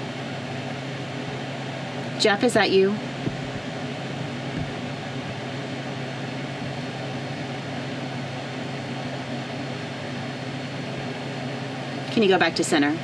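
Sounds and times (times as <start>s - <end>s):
low mechanical hum with hiss: 0.0s - 13.0s.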